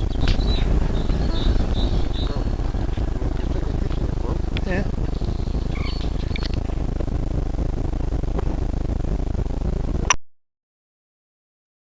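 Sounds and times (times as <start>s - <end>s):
low outdoor rumble: 0.0s - 10.2s.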